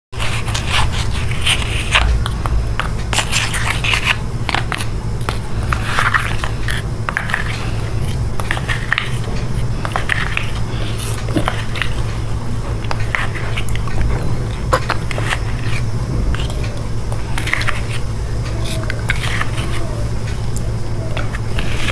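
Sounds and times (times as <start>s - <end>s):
chocolate crunching while chewed: 0.2s - 21.9s
steady low hum: 0.2s - 21.9s.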